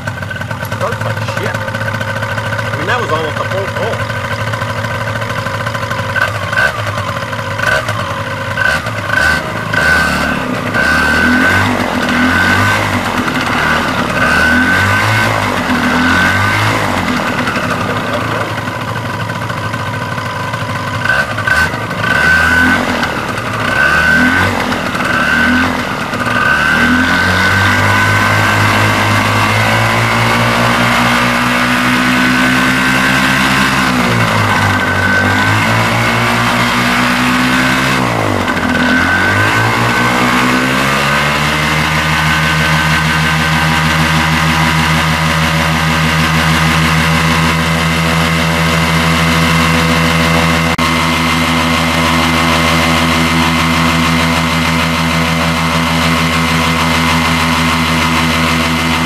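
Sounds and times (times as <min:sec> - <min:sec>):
two-stroke engine revving: 0:00.0 - 0:59.0.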